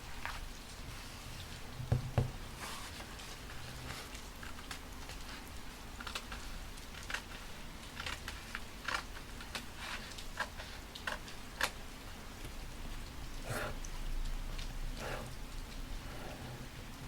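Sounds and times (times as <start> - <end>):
faint hiss of rain: 0.0 - 17.0.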